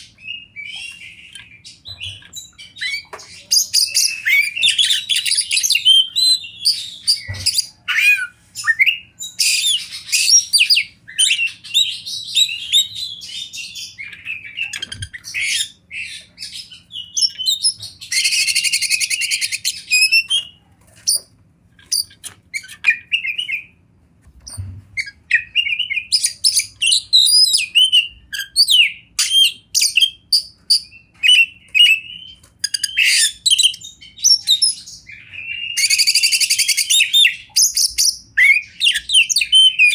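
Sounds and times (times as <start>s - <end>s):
bird singing whistles and trills: 0.2s - 20.6s, 21.9s - 23.8s, 24.5s - 39.9s.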